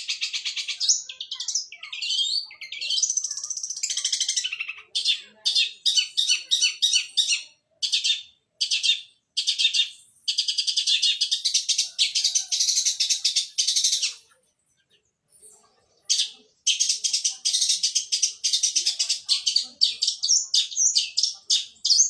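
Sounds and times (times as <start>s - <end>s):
bird chattering song: 0.0s - 22.0s.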